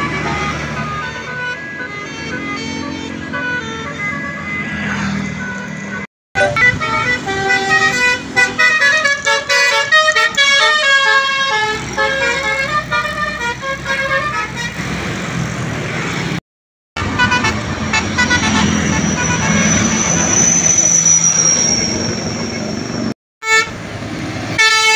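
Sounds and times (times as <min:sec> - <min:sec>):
bus engine running: 0:00.0 - 0:04.7, 0:05.3 - 0:16.4, 0:17.0 - 0:24.9
musical multi-tone bus horn: 0:00.0 - 0:15.4, 0:17.0 - 0:20.8, 0:23.4 - 0:23.9, 0:24.5 - 0:24.9
traffic noise: 0:00.0 - 0:16.4, 0:17.0 - 0:24.9.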